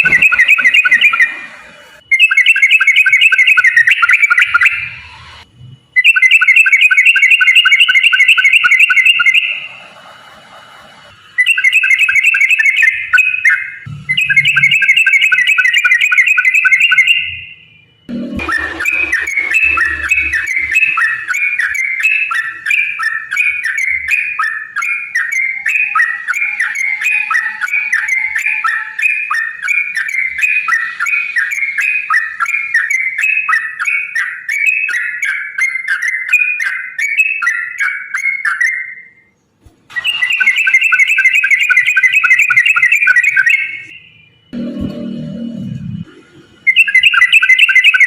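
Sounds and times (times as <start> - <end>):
bird chattering song: 0.0 - 1.4, 2.1 - 5.0, 6.0 - 9.7, 11.4 - 17.6, 18.4 - 39.3, 40.0 - 44.1, 46.7 - 48.0.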